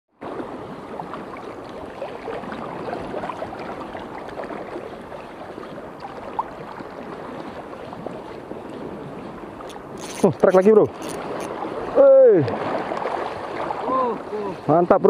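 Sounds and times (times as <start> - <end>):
water lapping and gurgling: 0.1 - 15.0.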